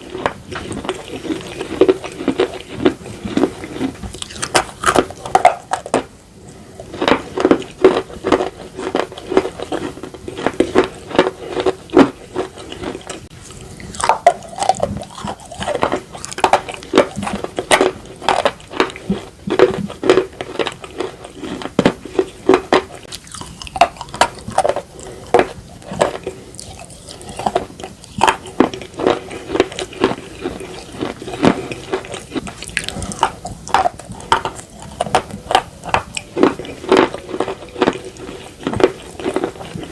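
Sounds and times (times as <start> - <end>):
chewing slate pencils: 0.0 - 6.1, 6.9 - 39.9.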